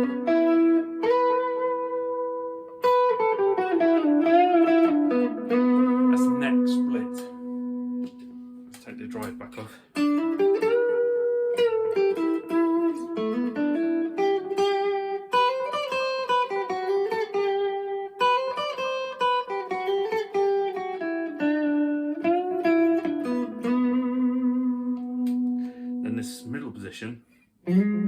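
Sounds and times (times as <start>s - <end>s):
clean electric guitar: 0.0s - 28.0s.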